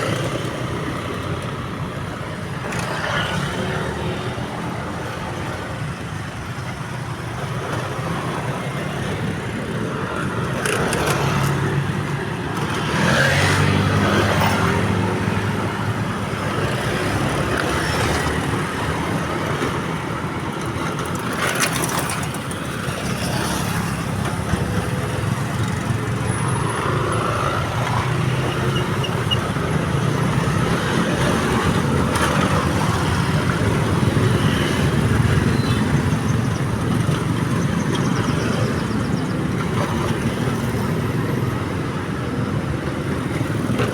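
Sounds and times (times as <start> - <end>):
vehicles passing: 0.0 - 43.9.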